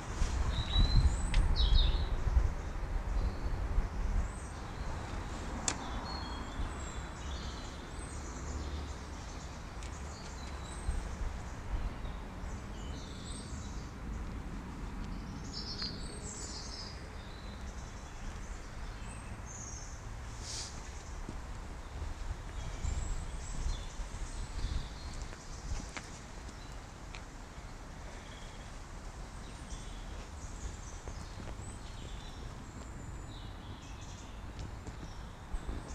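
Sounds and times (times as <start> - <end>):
birds chirping: 0.0 - 28.8, 29.4 - 35.9.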